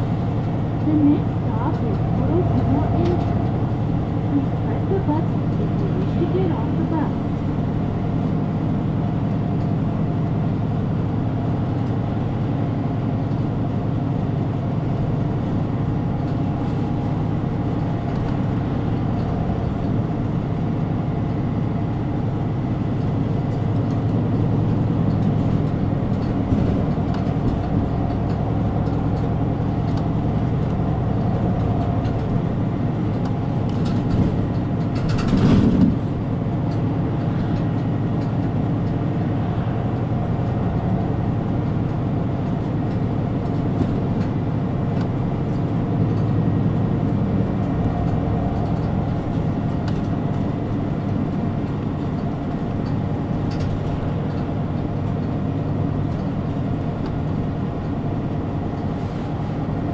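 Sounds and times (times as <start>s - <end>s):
bus diesel engine running: 0.0s - 59.9s
road and cabin noise: 0.0s - 59.9s.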